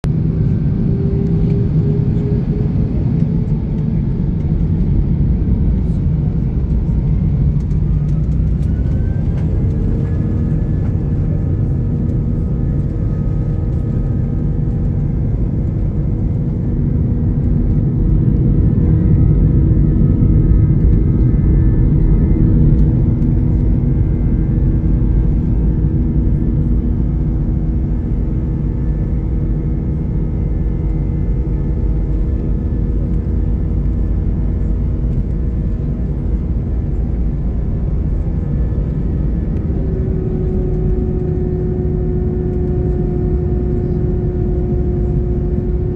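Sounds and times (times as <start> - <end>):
jet engines rumbling and whining: 0.0 - 45.9.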